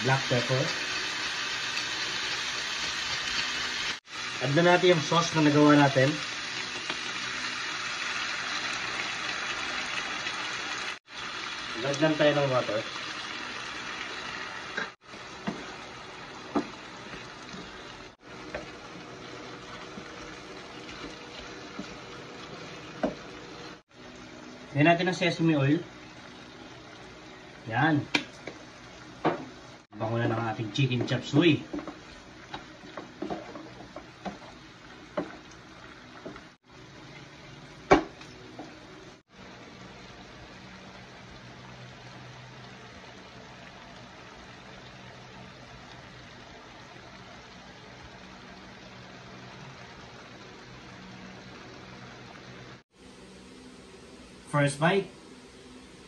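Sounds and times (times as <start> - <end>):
food sizzling and bubbling in a wok: 0.0 - 56.0.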